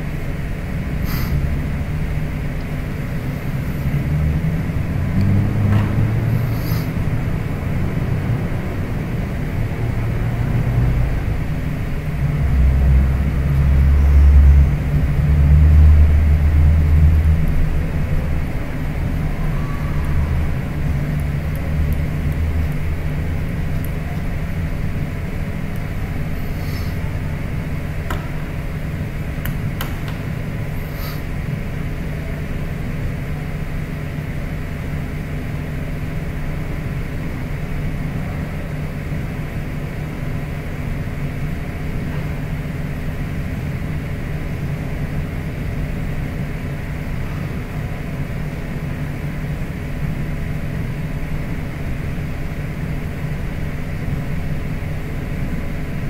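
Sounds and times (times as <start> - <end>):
mechanical hum with hiss: 0.0 - 56.0.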